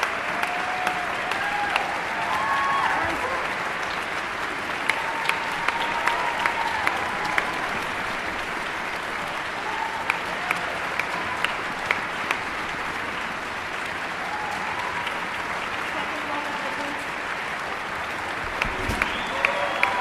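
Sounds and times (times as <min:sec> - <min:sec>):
sharp individual claps: 0:00.0 - 0:02.9, 0:03.5 - 0:15.9, 0:17.1 - 0:20.0
audience applauding: 0:00.0 - 0:20.0.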